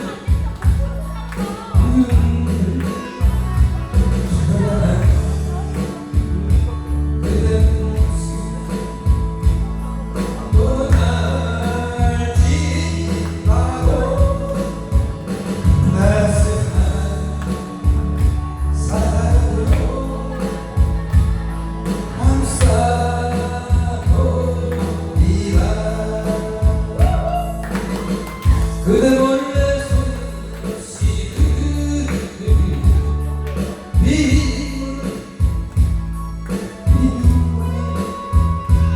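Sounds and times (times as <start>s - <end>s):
backing track with heavy bass: 0.0s - 38.9s
man singing into a microphone: 0.0s - 38.9s.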